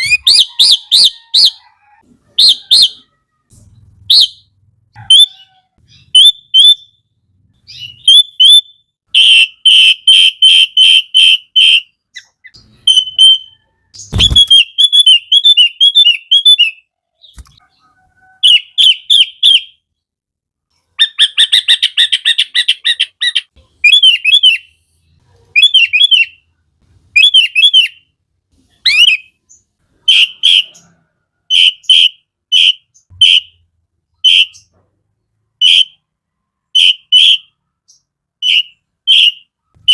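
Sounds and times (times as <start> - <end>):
bird singing with trills: 0.0 - 1.7, 2.3 - 19.9, 21.0 - 26.4, 27.2 - 28.1, 28.8 - 34.8, 36.8 - 39.9.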